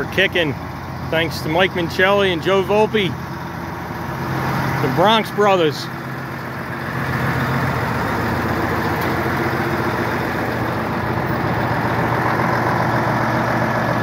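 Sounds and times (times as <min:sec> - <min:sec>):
fire engine idling: 0:00.0 - 0:14.0.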